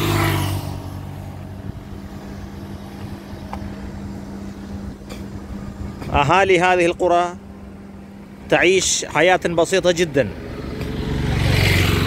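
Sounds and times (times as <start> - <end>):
motorcycle passing: 0.0 - 12.0
road noise: 0.0 - 12.0
steady low hum: 0.4 - 10.9.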